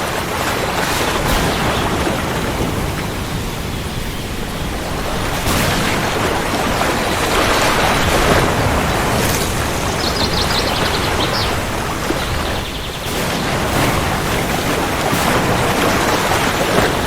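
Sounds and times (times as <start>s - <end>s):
heavy rain: 0.0s - 17.0s
rumbling thunder: 0.8s - 17.0s.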